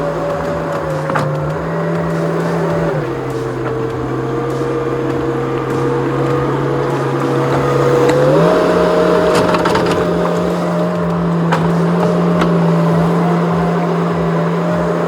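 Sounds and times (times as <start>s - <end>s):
skid steer engine humming: 0.0s - 15.0s.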